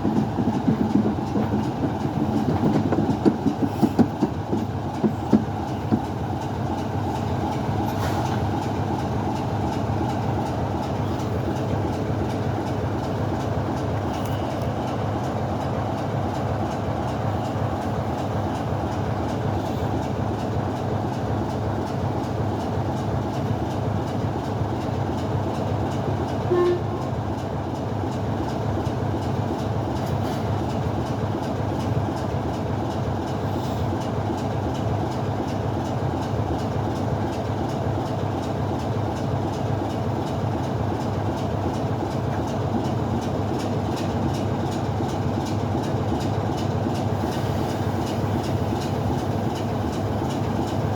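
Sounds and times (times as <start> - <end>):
train running: 0.0 - 50.9.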